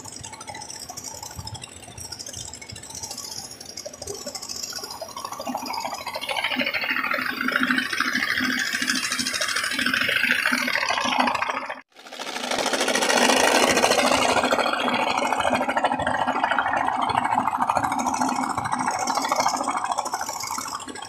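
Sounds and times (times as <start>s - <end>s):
pump engine rattling buzz: 0.0s - 21.0s.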